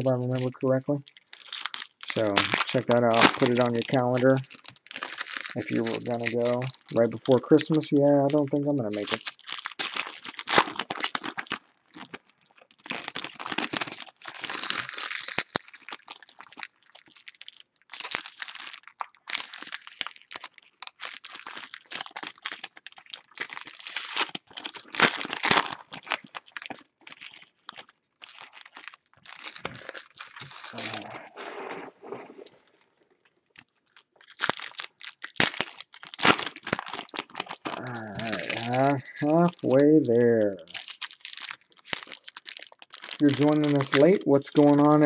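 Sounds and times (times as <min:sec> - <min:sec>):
foil wrappers crinkling and tearing: 0:00.0 - 0:32.9, 0:33.6 - 0:45.0.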